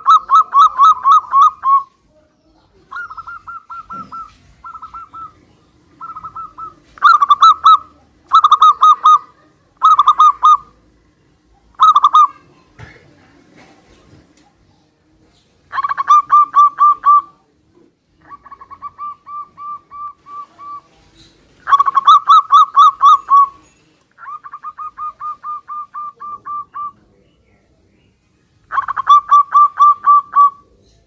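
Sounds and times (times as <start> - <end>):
doves cooing trills: 0.0 - 2.0, 2.7 - 14.4, 15.7 - 27.2, 28.7 - 31.0.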